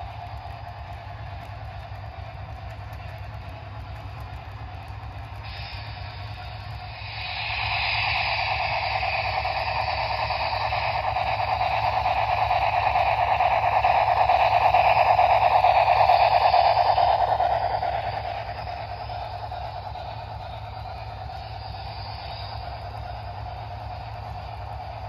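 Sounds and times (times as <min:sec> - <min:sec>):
hissing turbine sound from small speaker: 0:00.0 - 0:25.0.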